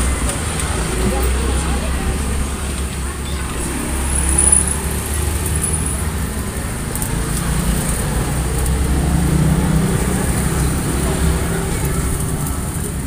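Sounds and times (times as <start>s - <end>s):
roadside traffic rumble: 0.0s - 13.0s.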